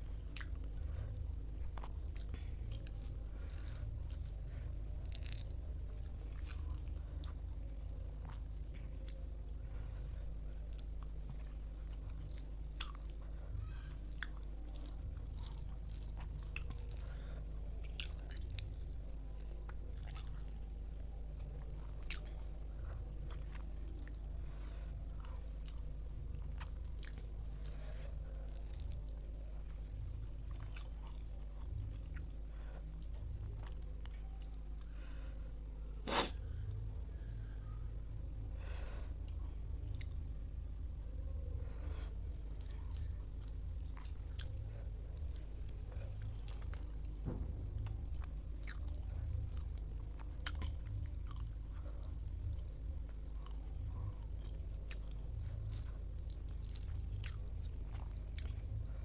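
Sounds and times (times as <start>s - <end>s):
person chewing food: 0.0s - 35.3s, 38.6s - 59.0s
steady low hum: 0.0s - 59.0s.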